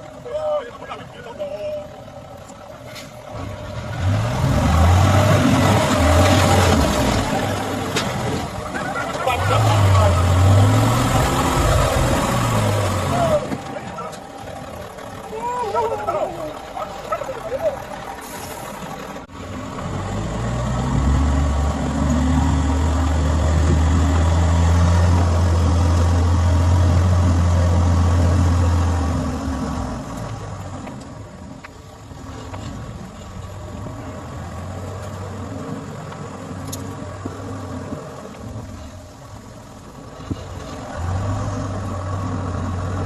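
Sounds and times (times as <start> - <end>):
car engine revving: 0.9 - 31.4, 32.2 - 43.0.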